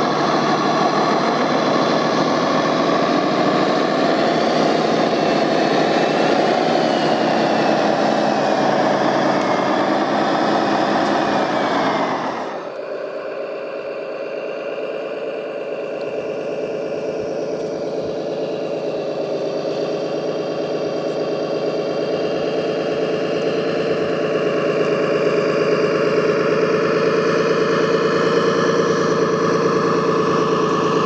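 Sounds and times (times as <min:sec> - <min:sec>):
model vehicle engine running: 0:00.0 - 0:31.0.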